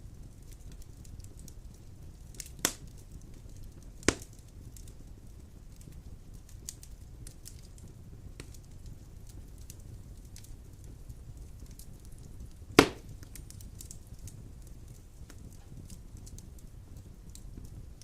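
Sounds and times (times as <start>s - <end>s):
wood fire burning: 0.0s - 18.0s
sharp pops of fire: 0.2s - 18.0s.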